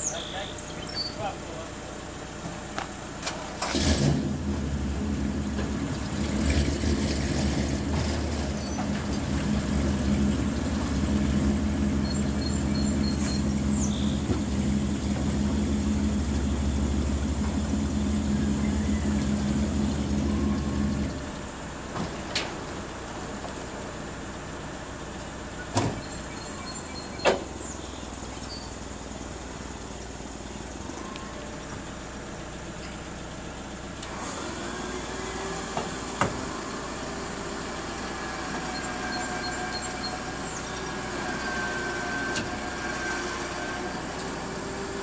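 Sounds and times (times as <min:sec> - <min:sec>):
forklift engine running: 0:00.0 - 0:45.0.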